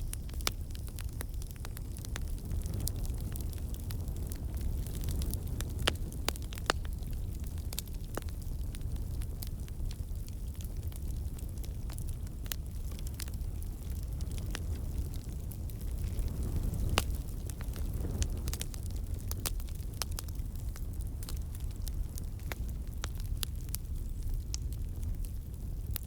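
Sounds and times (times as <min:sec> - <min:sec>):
campfire flame rumble: 0:00.0 - 0:26.0
fire crackling and popping: 0:00.0 - 0:26.0.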